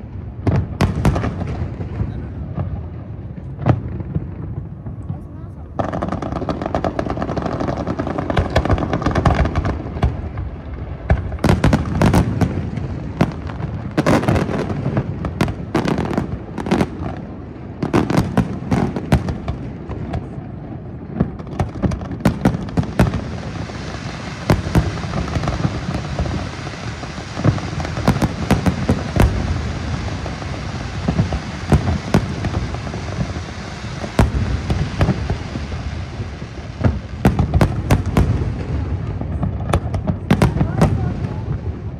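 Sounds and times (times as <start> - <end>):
crackling hiss of fireworks: 0.0 - 41.9
fireworks bangs: 0.0 - 41.9.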